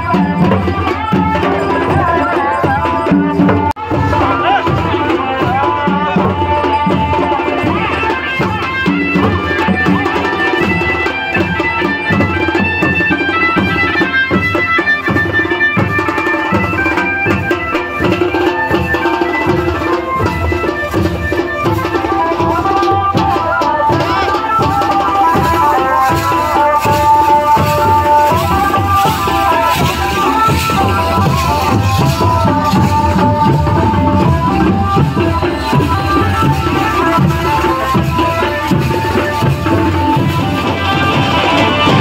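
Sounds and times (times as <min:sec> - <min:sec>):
bright melody: 0:00.0 - 0:42.0
steady drum beat: 0:00.0 - 0:42.0.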